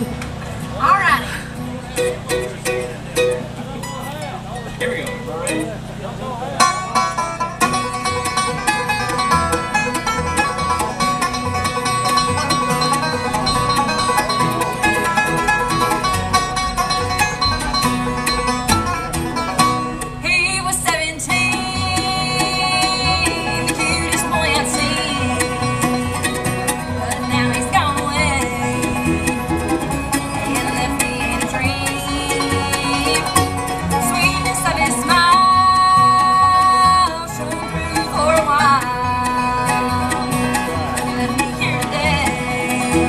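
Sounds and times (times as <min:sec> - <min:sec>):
banjo: 0:00.0 - 0:43.0
bluegrass band playing: 0:00.0 - 0:43.0.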